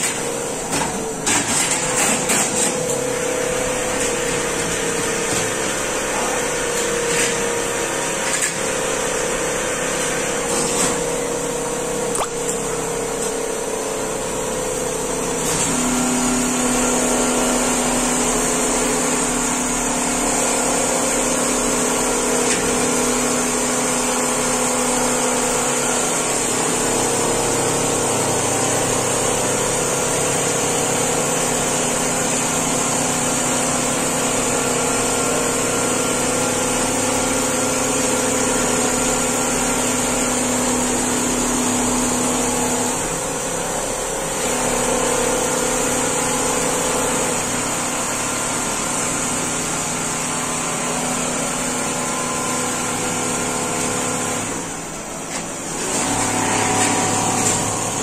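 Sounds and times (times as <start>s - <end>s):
quilting machine humming and whining: 0.0s - 58.0s.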